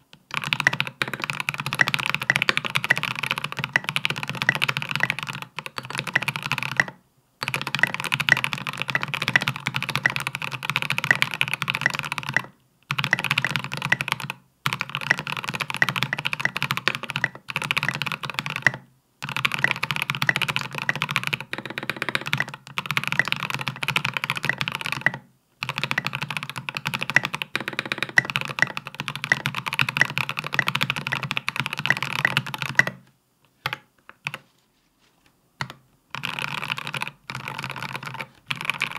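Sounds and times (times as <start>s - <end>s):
typing on mechanical keyboard: 0.1s - 33.0s, 33.6s - 34.5s, 35.6s - 38.9s.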